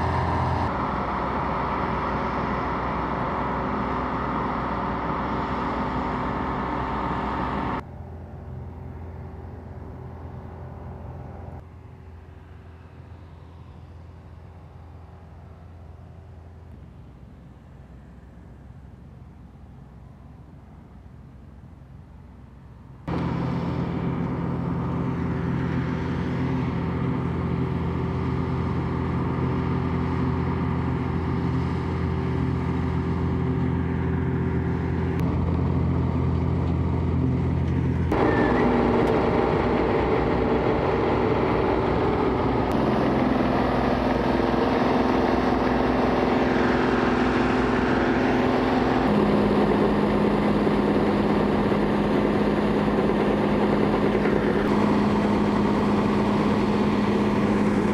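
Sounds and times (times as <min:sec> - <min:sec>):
combine harvester running: 0:00.0 - 0:57.9.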